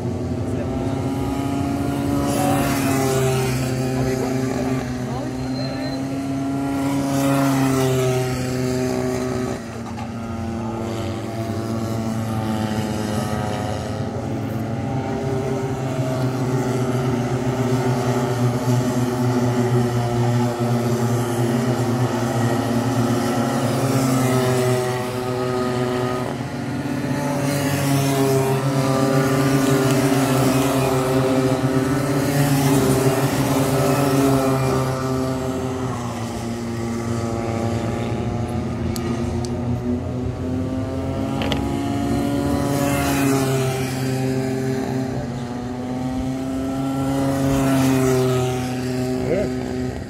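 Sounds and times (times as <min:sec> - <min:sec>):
racing kart engines: 0:00.0 - 0:50.0.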